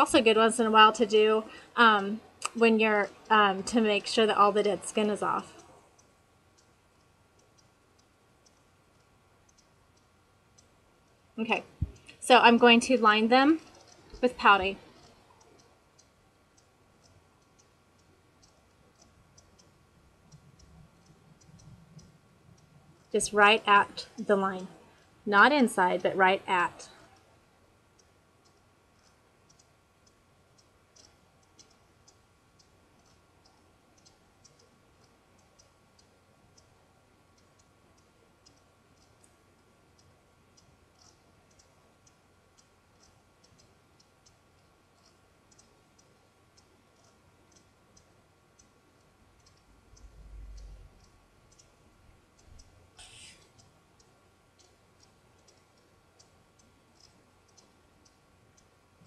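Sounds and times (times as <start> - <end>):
faint steady ticking: 0.0 - 59.0.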